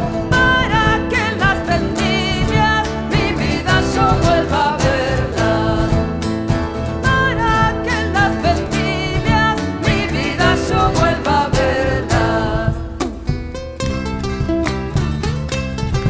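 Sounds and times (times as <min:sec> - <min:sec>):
acoustic guitars strumming: 0:00.0 - 0:16.0.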